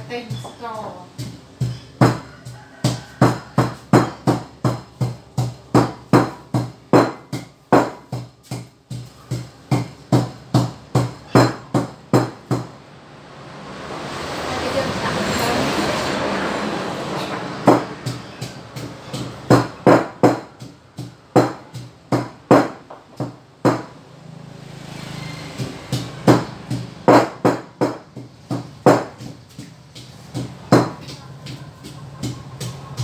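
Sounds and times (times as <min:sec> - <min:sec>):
wooden pestle pounding in mortar: 0:00.0 - 0:12.7, 0:17.2 - 0:24.0, 0:25.6 - 0:33.0.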